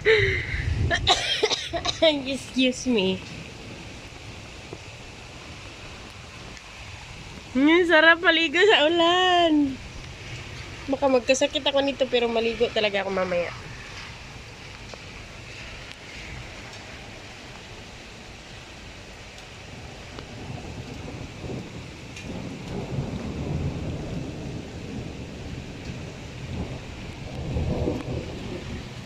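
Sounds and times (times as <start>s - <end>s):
heavy rain falling: 0.0s - 29.0s
thunder rumbling: 0.0s - 29.0s.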